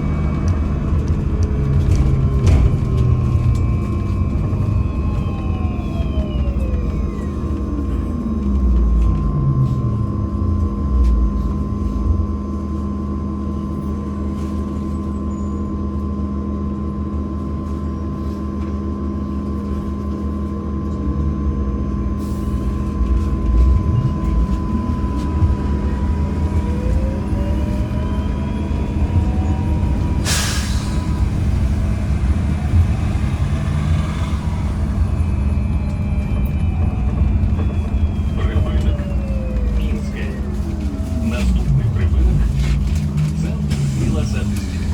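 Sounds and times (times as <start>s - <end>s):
electric traction drive whining: 0.0s - 12.4s, 21.3s - 44.9s
road rumble: 0.0s - 44.9s.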